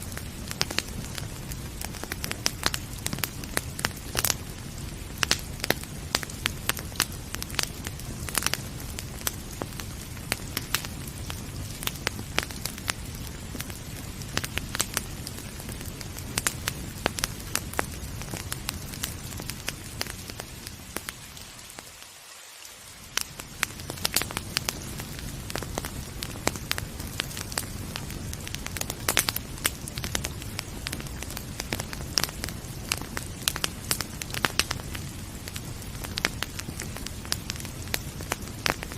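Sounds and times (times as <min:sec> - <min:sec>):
wood fire crackling and popping: 0:00.0 - 0:22.0, 0:22.9 - 0:38.9
hiss of rain: 0:00.0 - 0:38.9.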